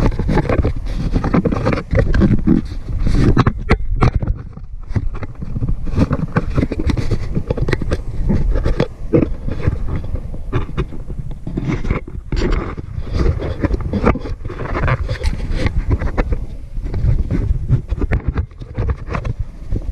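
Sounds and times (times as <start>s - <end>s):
camera handling rubbing and knocking: 0.0s - 19.9s.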